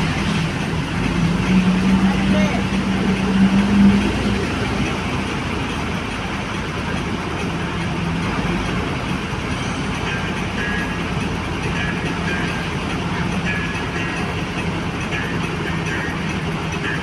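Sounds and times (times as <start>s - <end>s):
vehicle rushing noise: 0.0s - 17.0s.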